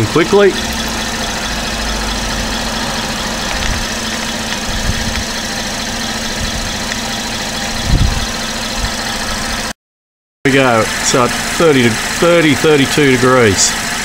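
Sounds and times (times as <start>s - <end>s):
car engine idling: 0.0s - 9.7s, 10.5s - 14.0s.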